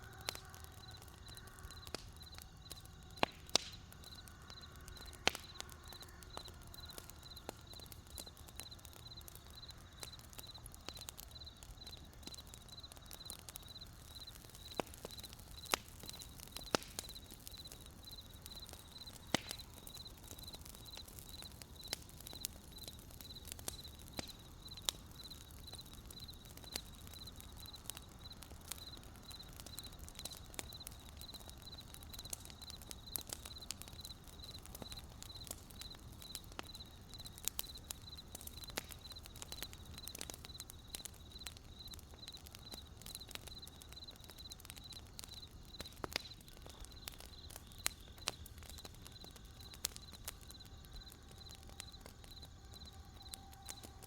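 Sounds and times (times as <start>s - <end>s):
campfire crackling and popping: 0.0s - 54.0s
cricket chirping: 4.0s - 54.0s.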